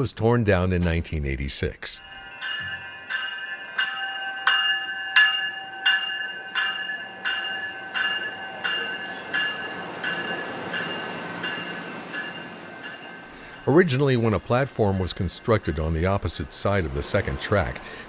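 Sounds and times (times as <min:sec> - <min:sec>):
railway bell ringing: 0:02.0 - 0:18.0
train rolling: 0:02.0 - 0:18.0.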